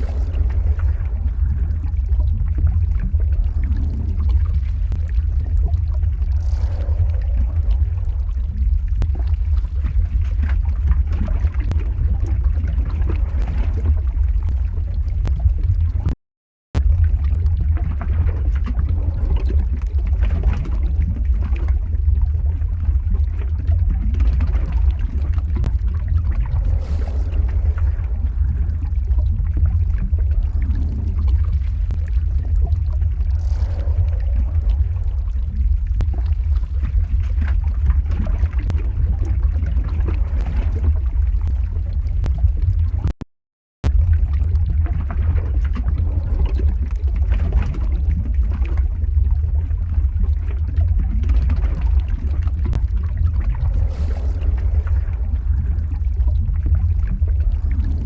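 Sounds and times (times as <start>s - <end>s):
lava deep rumble: 0.0s - 43.2s, 43.8s - 58.0s
crackling and bubbling: 0.0s - 58.0s.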